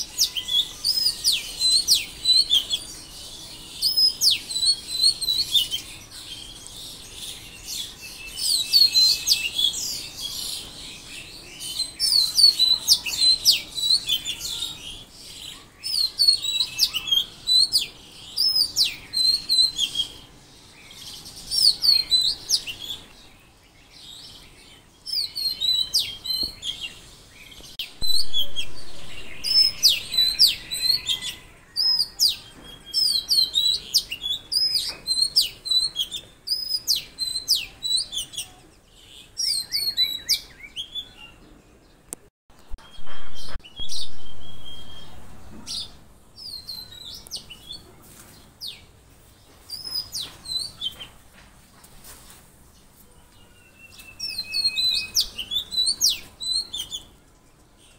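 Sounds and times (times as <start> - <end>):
birds chirping and singing: 0.0 - 51.4, 52.0 - 57.9.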